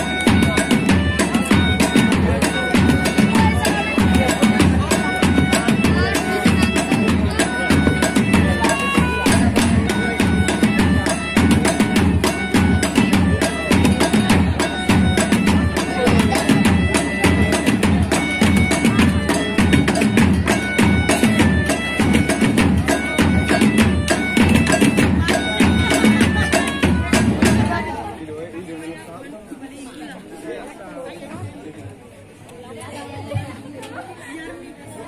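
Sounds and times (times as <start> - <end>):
fast percussion music: 0.0 - 28.2.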